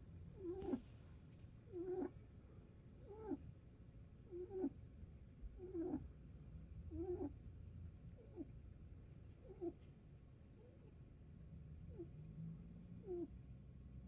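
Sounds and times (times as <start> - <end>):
rabbit snoring: 0.0 - 0.9, 1.6 - 2.3, 3.0 - 3.6, 4.2 - 14.0.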